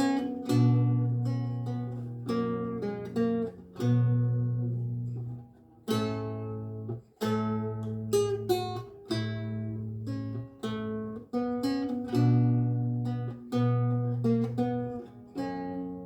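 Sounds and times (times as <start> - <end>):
lute plucked slowly: 0.0 - 16.0.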